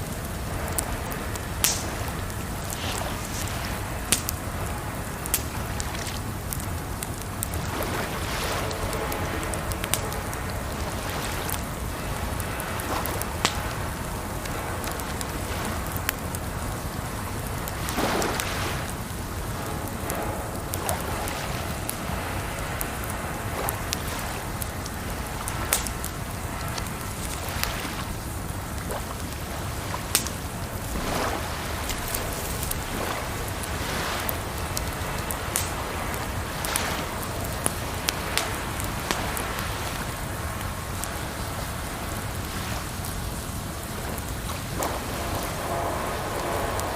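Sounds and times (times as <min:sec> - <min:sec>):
rushing water: 0:00.0 - 0:46.9
wood fire crackling and popping: 0:00.0 - 0:46.9.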